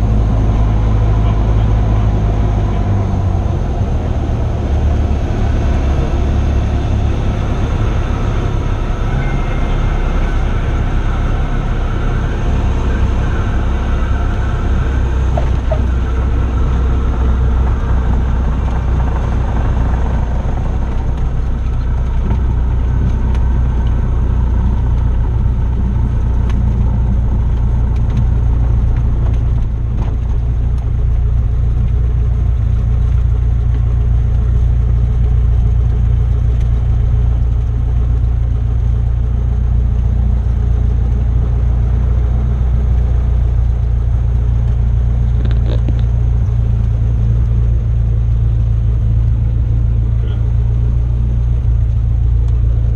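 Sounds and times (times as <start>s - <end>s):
airplane engine and propeller drone: 0.0s - 52.9s.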